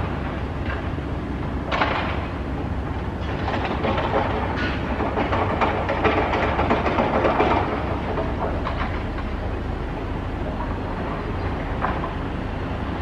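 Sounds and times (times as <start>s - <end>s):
train rattling on tracks: 0.0s - 13.0s.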